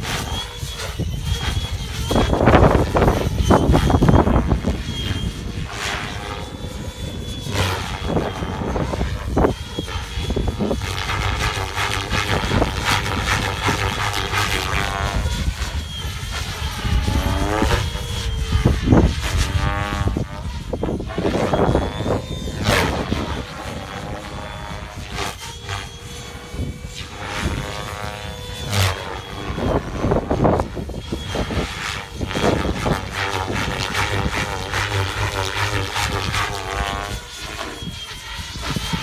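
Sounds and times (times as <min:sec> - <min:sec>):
rc helicopter rotor and motor whine: 0:00.0 - 0:39.0
wind buffeting microphone: 0:00.0 - 0:39.0.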